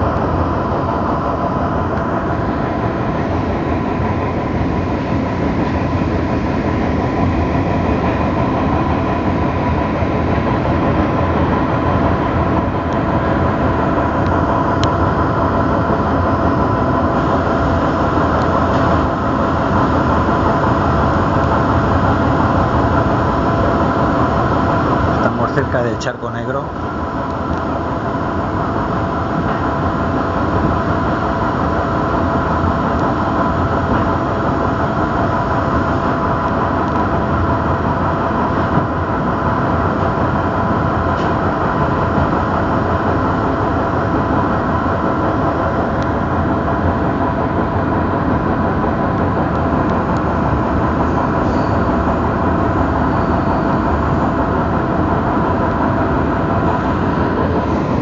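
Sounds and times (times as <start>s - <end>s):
constant whine: 0.0s - 58.0s.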